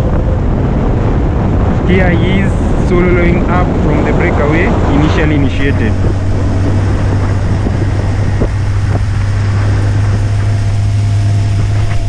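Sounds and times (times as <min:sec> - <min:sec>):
vehicle engine droning: 0:00.0 - 0:12.0
wind on microphone: 0:00.0 - 0:12.0.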